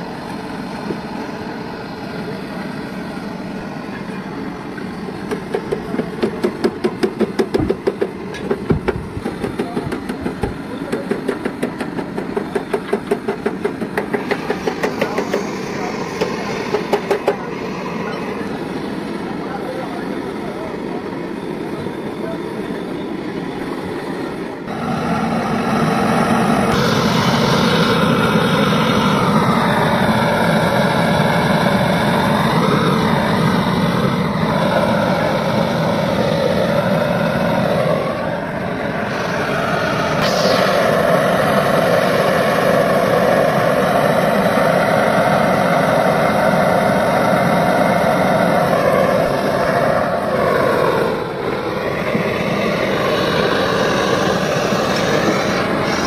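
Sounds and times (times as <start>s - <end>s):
blowtorch flame rushing: 5.2s - 19.0s, 24.7s - 56.0s.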